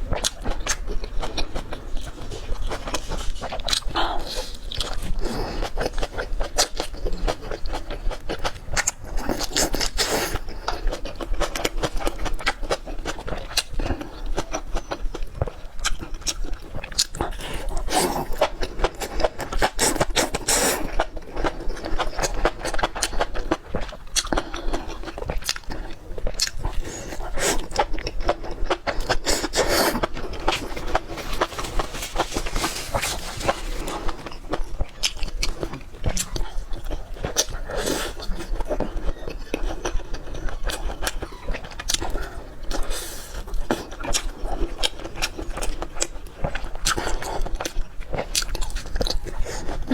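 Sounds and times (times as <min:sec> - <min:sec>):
person chewing and biting: 0:00.1 - 0:49.9.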